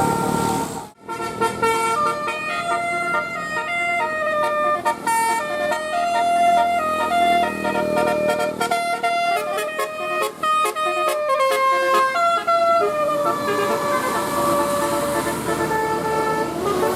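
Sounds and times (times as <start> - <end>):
musical air horn melody: 0.0 - 16.9.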